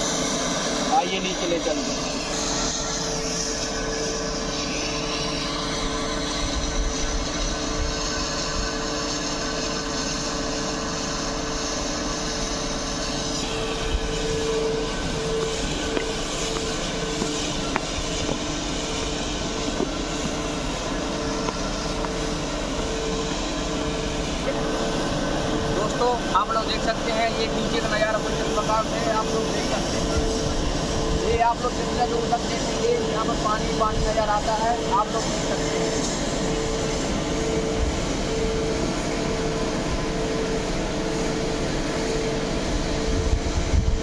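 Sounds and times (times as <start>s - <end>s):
pumping machinery humming: 0.0s - 44.0s.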